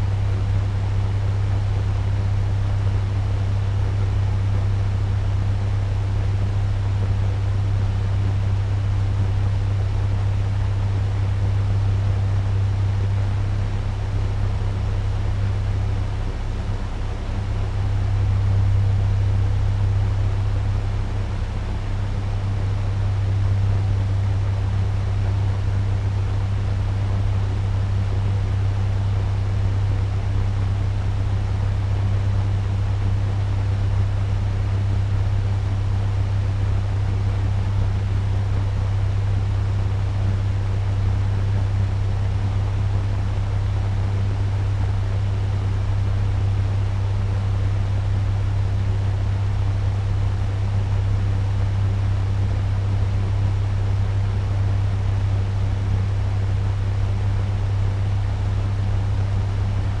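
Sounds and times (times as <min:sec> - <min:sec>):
fan air rush: 0:00.0 - 1:00.0
low motor hum: 0:00.0 - 1:00.0.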